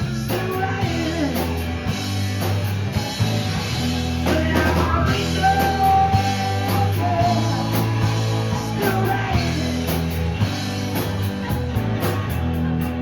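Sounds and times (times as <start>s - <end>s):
bass line: 0.0s - 13.0s
drum kit: 0.0s - 13.0s
guitar: 0.0s - 13.0s
live rock band playing: 0.0s - 13.0s.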